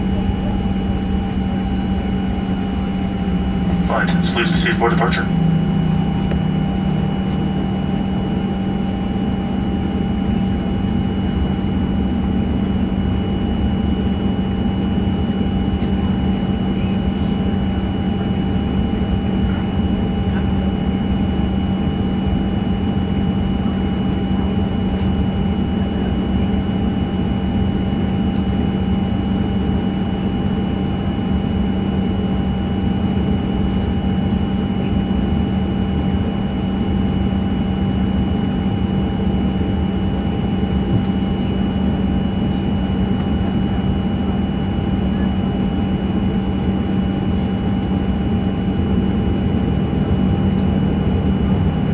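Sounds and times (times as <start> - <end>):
airliner cabin rumble: 0.0 - 51.9.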